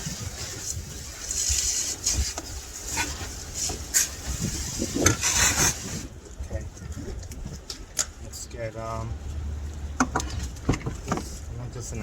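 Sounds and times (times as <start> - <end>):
constant low rumble: 0.0 - 12.0.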